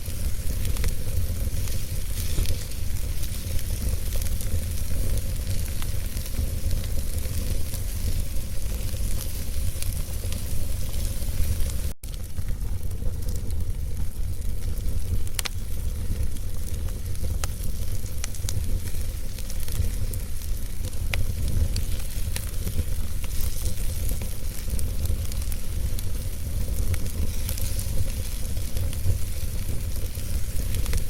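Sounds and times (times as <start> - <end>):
logs crackling and popping: 0.0 - 31.0
wood fire burning: 0.0 - 31.0.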